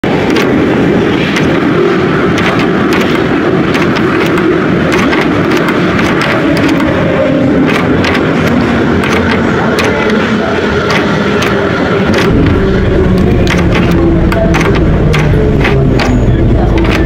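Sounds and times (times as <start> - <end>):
train wheels rumbling: 0.0 - 17.0
sharp clicks and knocks: 0.1 - 1.7, 2.3 - 7.0, 7.6 - 17.0.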